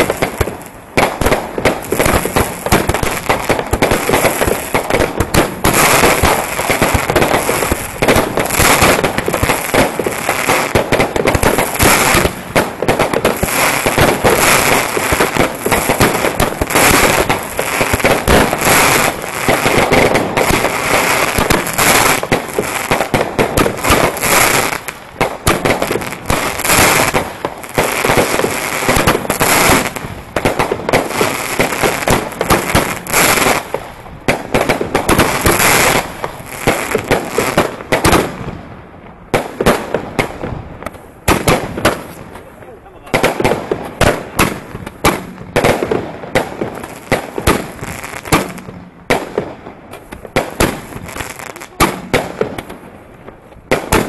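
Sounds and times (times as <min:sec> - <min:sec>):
fireworks launching and banging: 0:00.0 - 0:54.0.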